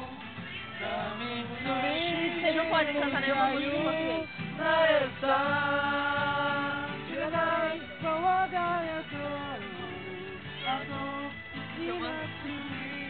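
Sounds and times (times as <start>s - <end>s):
acoustic guitar: 0.0s - 13.0s
men singing: 0.0s - 13.0s.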